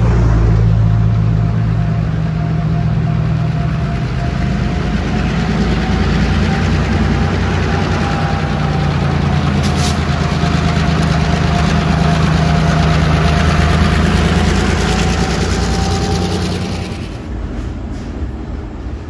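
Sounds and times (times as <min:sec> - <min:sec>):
diesel locomotives droning: 0:00.0 - 0:19.0.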